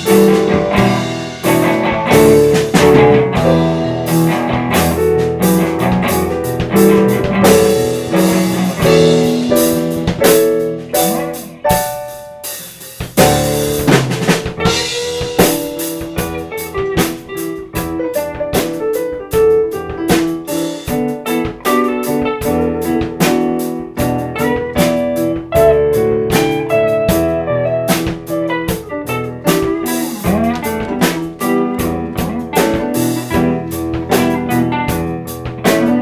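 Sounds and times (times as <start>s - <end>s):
drum-kit beat: 0.0s - 36.0s
guitar: 0.0s - 36.0s.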